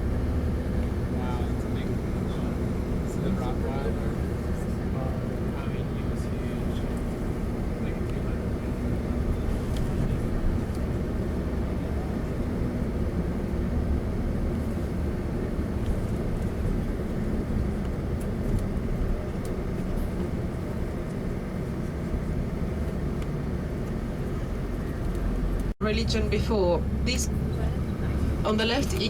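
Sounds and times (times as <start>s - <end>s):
coach engine and road rumble: 0.0s - 29.0s.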